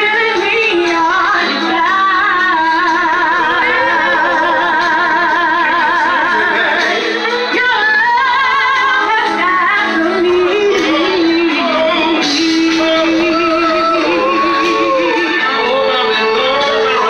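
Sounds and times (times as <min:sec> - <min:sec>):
woman singing through pa: 0:00.0 - 0:17.0.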